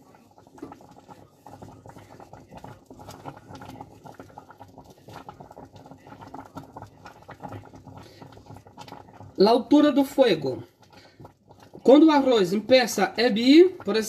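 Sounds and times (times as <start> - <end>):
rice pudding simmering: 0.0 - 14.0.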